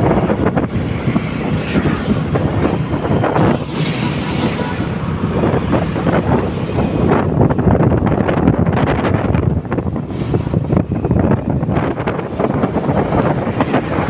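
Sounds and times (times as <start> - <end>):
moving vehicle rumble: 0.0 - 14.0
wind buffeting microphone: 0.0 - 14.0.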